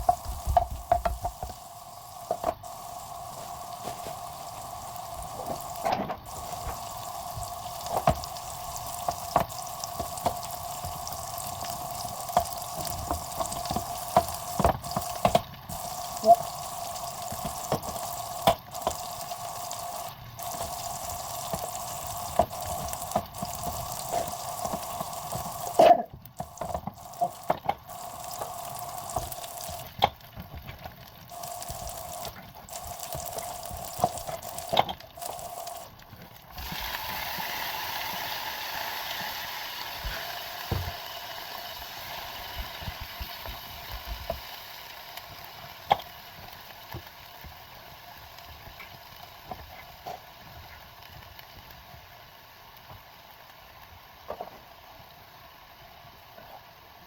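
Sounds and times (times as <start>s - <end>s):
food cooking in a pan: 0.0s - 57.0s.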